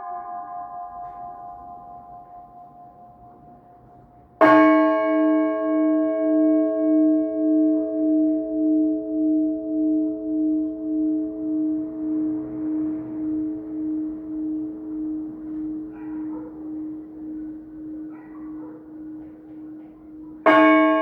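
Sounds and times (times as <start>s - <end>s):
church bell ringing: 0.0s - 21.0s.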